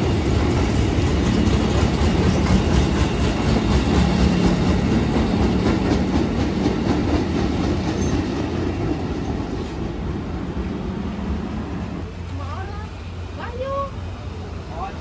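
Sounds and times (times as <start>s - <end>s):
electric train running on tracks: 0.0s - 15.0s.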